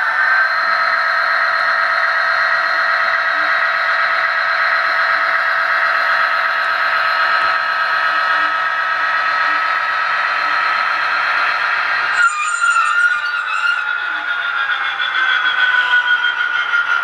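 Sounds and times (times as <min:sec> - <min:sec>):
model turntable motor whine: 0:00.0 - 0:17.0.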